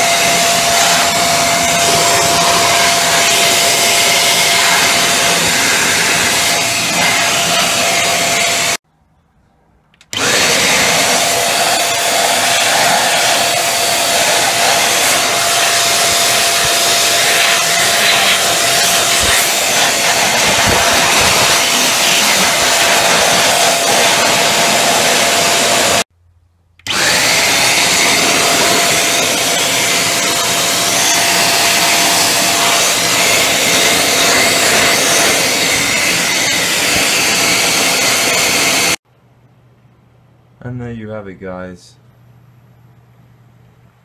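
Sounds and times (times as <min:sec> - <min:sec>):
electric air blower running: 0:00.0 - 0:08.8, 0:10.1 - 0:26.1, 0:26.8 - 0:39.0.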